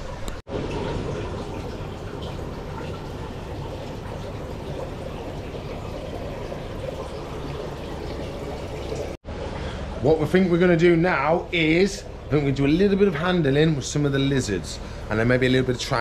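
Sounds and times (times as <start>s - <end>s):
water running into a tank: 0.0s - 16.0s.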